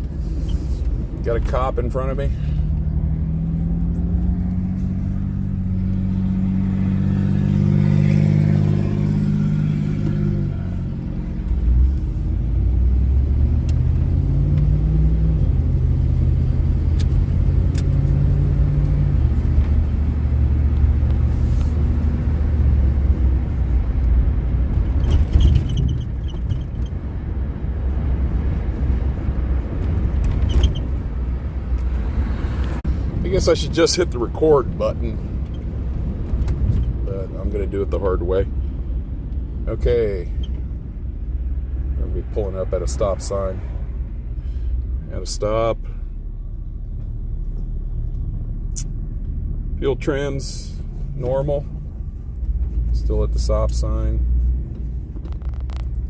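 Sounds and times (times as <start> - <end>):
road rumble: 0.0 - 56.0.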